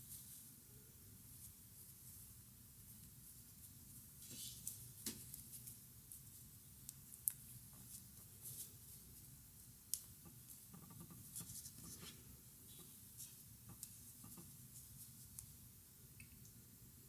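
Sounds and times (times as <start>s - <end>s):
yarn rustling: 1.1s - 15.6s.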